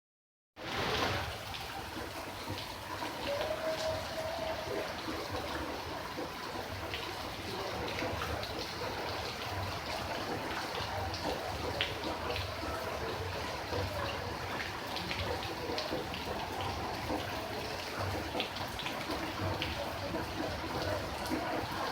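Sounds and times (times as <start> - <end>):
steady rain hissing: 0.6 - 21.9
raindrops ticking close by: 0.7 - 21.9.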